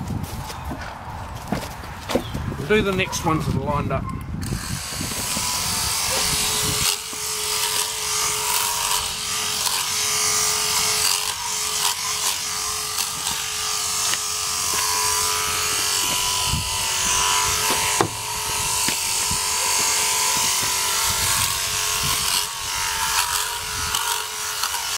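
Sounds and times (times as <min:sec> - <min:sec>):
sheep clipper humming: 0:04.4 - 0:24.9.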